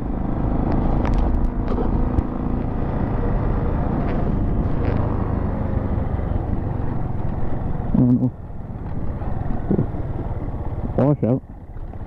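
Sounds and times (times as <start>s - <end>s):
motorcycle engine running: 0.0s - 12.0s
wind and road rumble: 0.0s - 12.0s.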